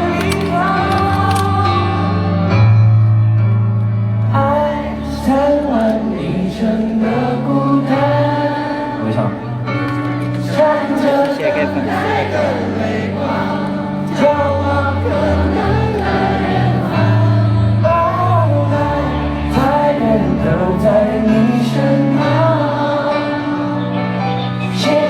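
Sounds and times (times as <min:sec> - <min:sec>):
many people singing together: 0:00.0 - 0:02.6, 0:04.4 - 0:25.0
live pop music: 0:00.0 - 0:25.0.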